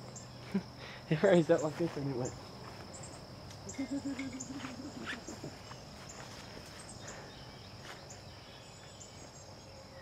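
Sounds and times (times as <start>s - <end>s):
insect chirps: 0.0s - 10.0s
insects droning: 0.0s - 10.0s.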